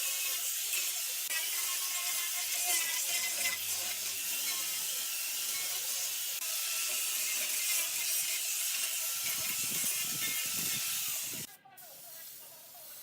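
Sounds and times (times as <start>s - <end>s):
power tool working wood: 0.0s - 11.5s.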